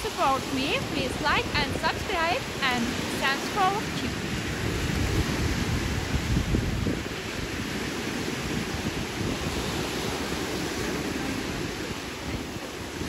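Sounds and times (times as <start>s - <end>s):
sea surf on shore: 0.0s - 13.0s
wind rumbling on microphone: 0.0s - 13.0s.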